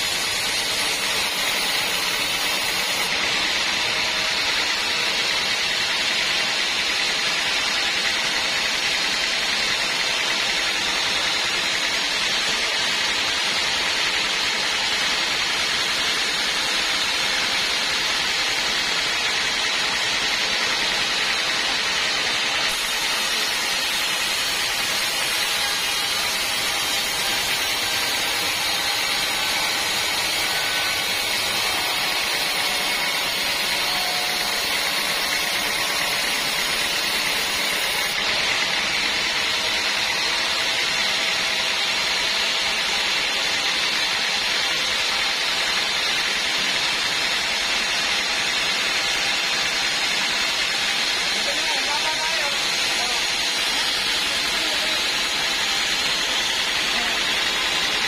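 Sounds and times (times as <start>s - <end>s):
band sawmill running: 0.0s - 58.0s.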